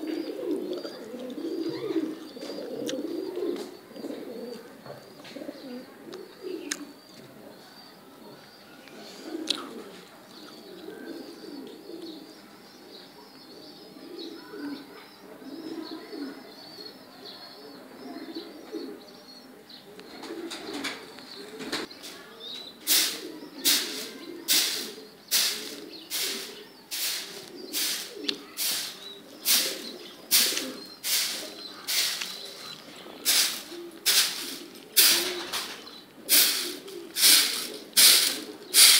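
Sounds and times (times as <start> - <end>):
pigeons cooing: 0.0 - 7.6, 8.2 - 38.9.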